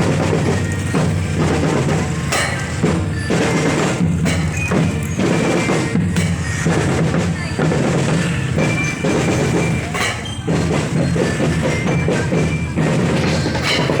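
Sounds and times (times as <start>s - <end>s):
bell-like melody notes: 0.0s - 14.0s
marching drum band: 0.0s - 14.0s.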